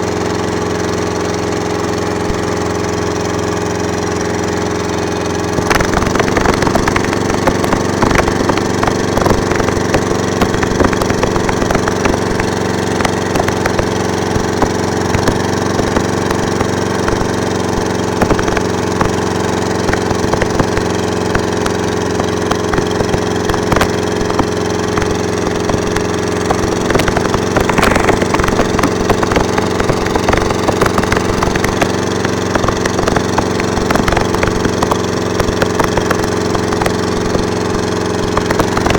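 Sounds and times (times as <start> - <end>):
small engine running: 0.0 - 38.9
irregular crackling and clicking: 5.5 - 38.9.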